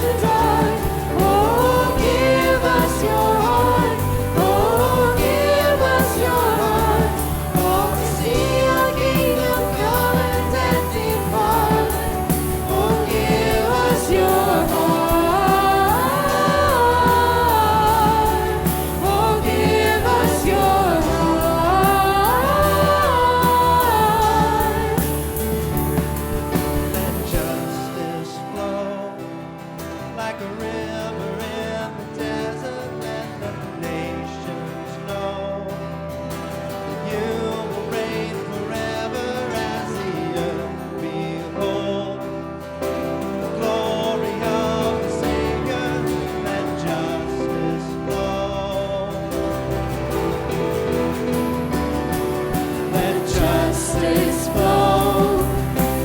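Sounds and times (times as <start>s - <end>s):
guitar: 0.0s - 56.0s
people singing: 0.0s - 56.0s
worship band playing: 0.0s - 56.0s.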